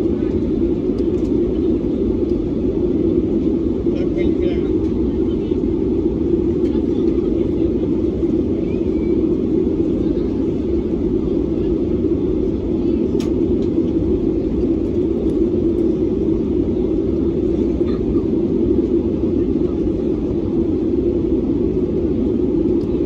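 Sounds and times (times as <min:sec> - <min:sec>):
airflow over fuselage: 0:00.0 - 0:23.0
airliner cabin engine rumble: 0:00.0 - 0:23.0.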